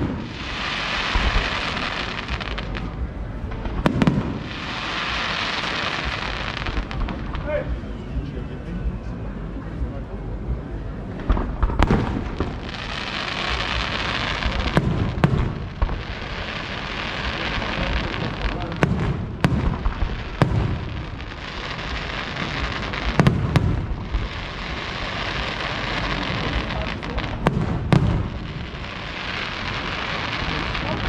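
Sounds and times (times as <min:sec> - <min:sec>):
firework crackling hiss: 0:00.0 - 0:08.0, 0:11.2 - 0:31.0.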